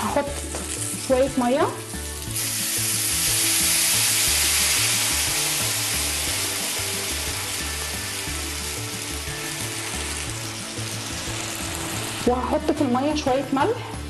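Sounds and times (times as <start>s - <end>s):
water sizzling in hot pan: 0.0s - 14.0s.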